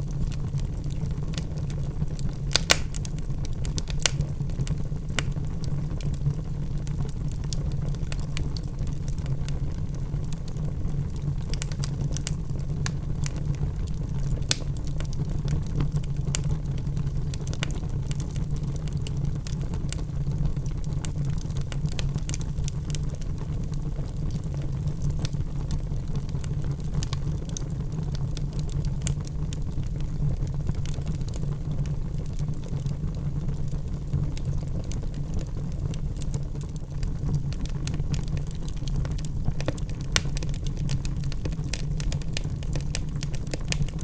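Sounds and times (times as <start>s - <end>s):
logs burning in fireplace: 0.0s - 44.0s.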